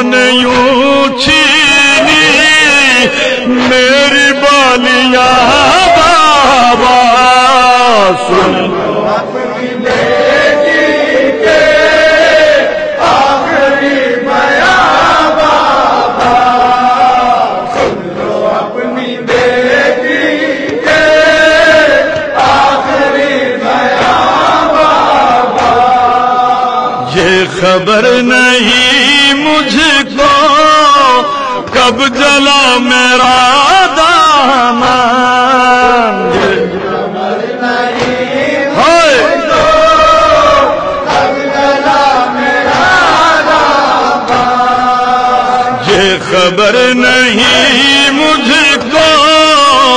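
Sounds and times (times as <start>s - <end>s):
voices chanting a lament: 0.0s - 49.9s.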